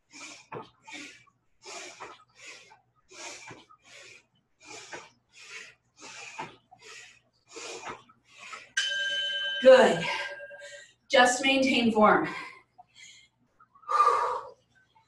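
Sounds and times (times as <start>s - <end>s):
forceful rhythmic breathing: 0.0s - 15.0s.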